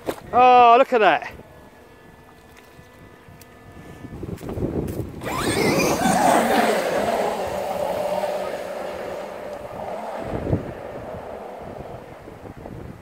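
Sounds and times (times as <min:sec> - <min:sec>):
wind: 0:00.0 - 0:13.0
electric motor whining: 0:01.3 - 0:13.0.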